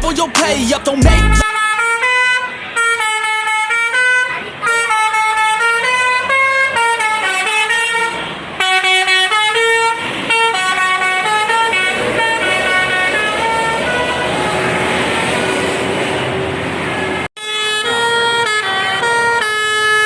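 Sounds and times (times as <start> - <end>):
bus multi-tone horn tune: 0.0 - 20.0.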